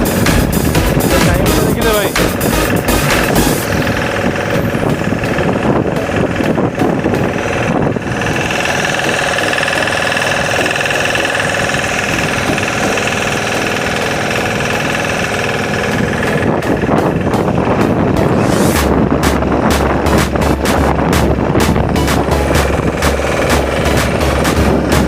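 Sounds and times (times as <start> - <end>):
motorboat engine knocking: 0.0 - 25.0.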